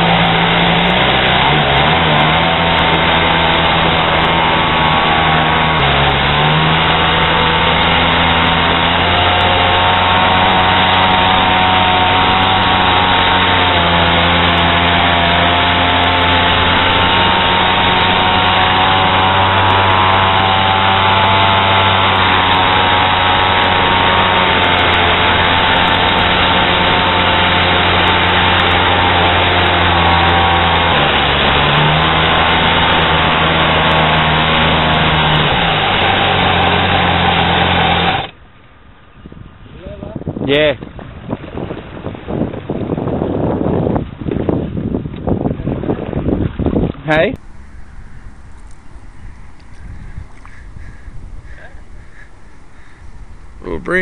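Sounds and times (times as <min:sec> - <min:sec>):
two-stroke engine running: 0:00.0 - 0:39.7, 0:47.1 - 0:54.0.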